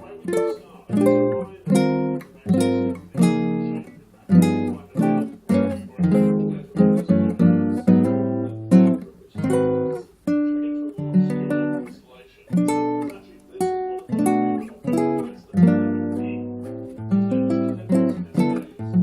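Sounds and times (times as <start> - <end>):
acoustic guitar strummed: 0.0 - 19.0.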